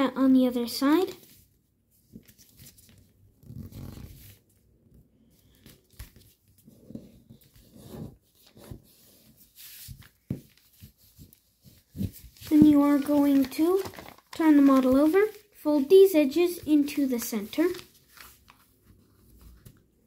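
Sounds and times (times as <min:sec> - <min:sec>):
paper rustling and crinkling: 0:01.0 - 0:04.6, 0:05.4 - 0:20.0.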